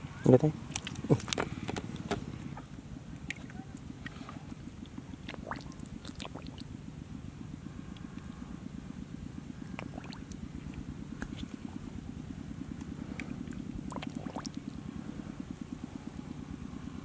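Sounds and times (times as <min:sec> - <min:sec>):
low pulsing rumble: 0:00.0 - 0:17.0.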